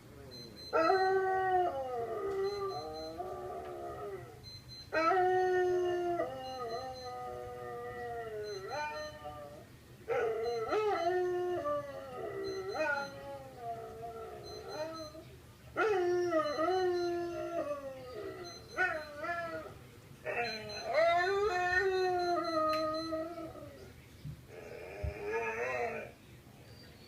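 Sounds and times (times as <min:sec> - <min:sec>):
dog howling: 0:00.7 - 0:15.2, 0:15.8 - 0:23.8, 0:24.5 - 0:26.1.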